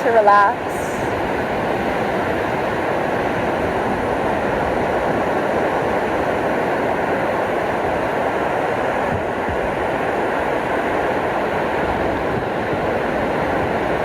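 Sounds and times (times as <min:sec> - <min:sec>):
ocean surf washing onto beach: 0:00.0 - 0:14.0.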